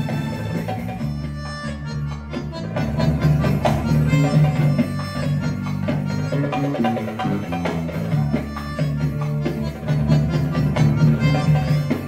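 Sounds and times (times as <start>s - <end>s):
guitar: 0.0s - 12.0s
hand drums: 0.0s - 12.0s
keyboard melody: 0.0s - 12.0s.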